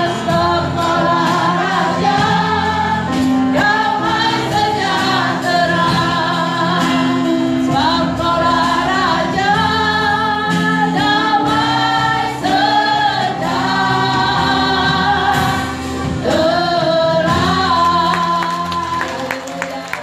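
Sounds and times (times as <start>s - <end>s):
choir of women and children singing: 0.0s - 19.1s.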